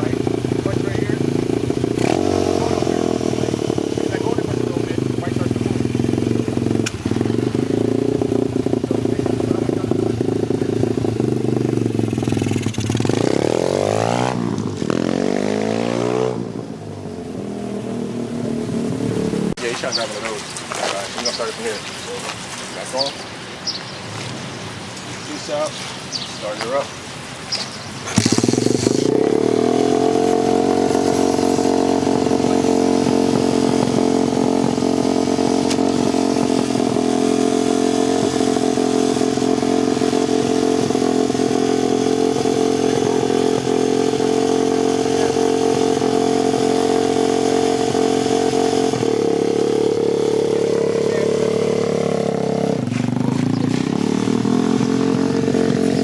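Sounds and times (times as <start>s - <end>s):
dirt bike engine idling: 0.0s - 15.8s, 16.5s - 56.0s.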